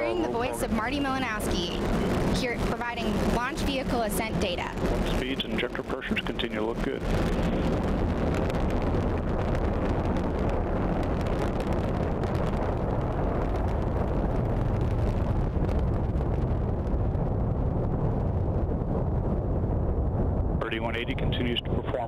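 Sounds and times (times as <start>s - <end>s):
rocket engine rumble: 0.0s - 22.0s.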